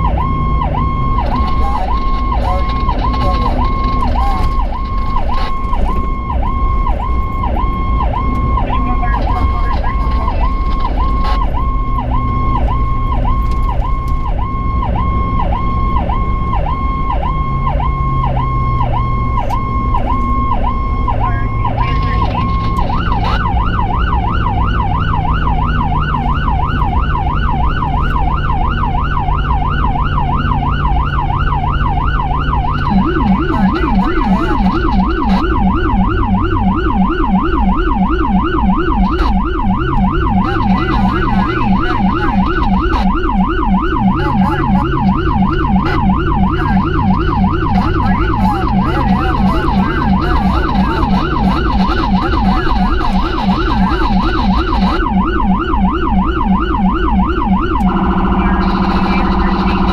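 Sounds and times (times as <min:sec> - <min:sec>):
electronic emergency siren: 0:00.0 - 0:59.9
road noise: 0:00.0 - 0:59.9
vehicle engine: 0:00.0 - 0:59.9.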